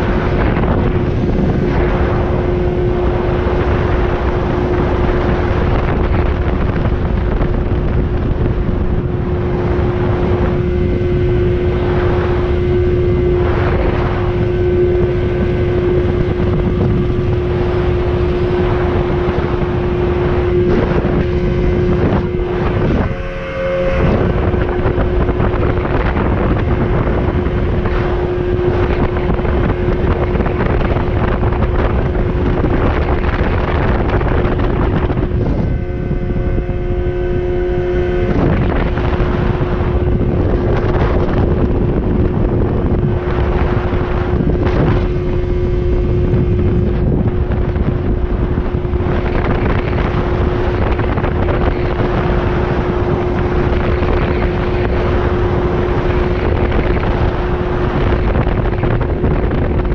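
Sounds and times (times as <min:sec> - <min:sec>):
outboard motor droning: 0:00.0 - 0:59.9
wind buffeting on microphone: 0:00.0 - 0:59.9.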